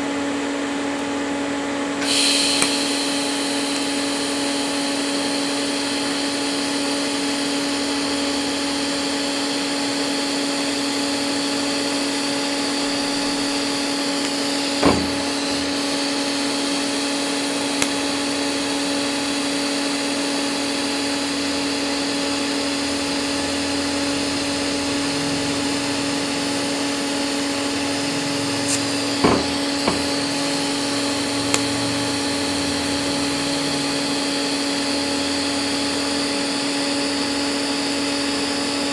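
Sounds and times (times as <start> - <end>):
welding arc buzzing hiss: 2.0 - 38.9.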